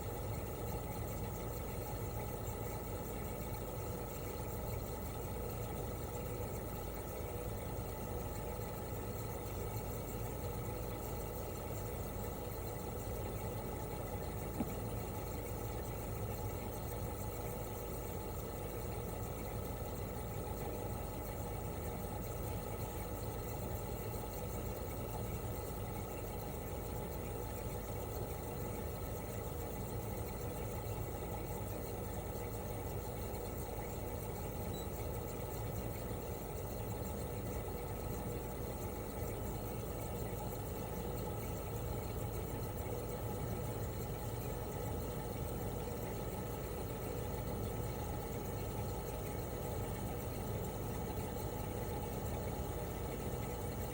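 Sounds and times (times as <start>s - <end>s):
air conditioner unit humming: 0.0s - 53.9s.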